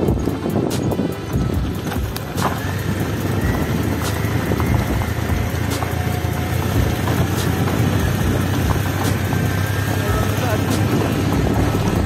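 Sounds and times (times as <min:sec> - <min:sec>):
motorcycle running: 0:00.0 - 0:12.0
sharp clicks from bumps: 0:00.0 - 0:12.0
wind rumble on microphone: 0:00.0 - 0:12.0.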